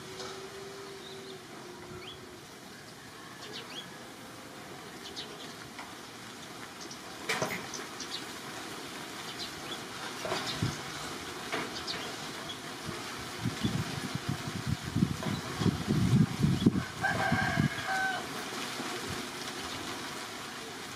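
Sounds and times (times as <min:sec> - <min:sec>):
steady outdoor hiss: 0:00.0 - 0:20.9.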